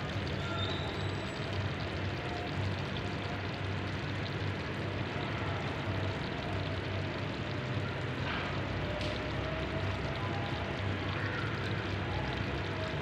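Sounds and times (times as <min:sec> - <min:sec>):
pot simmering: 0:00.0 - 0:13.0.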